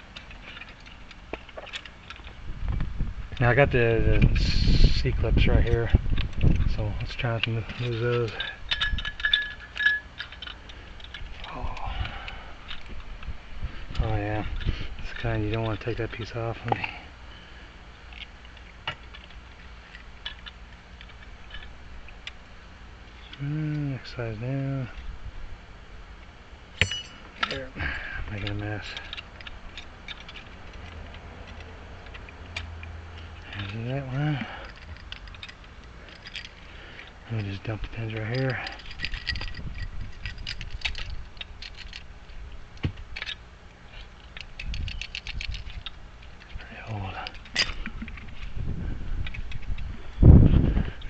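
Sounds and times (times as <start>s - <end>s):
lock parts and tools clicking: 0.0s - 2.9s, 5.6s - 16.9s, 18.0s - 22.4s, 28.3s - 51.0s
low steady hum: 0.0s - 51.0s.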